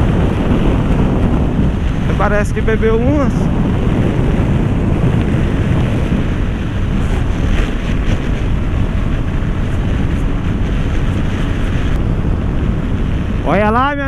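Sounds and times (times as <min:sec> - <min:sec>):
motorcycle engine: 0:00.0 - 0:14.0
road noise: 0:00.0 - 0:14.0
wind rush over microphone: 0:00.0 - 0:14.0.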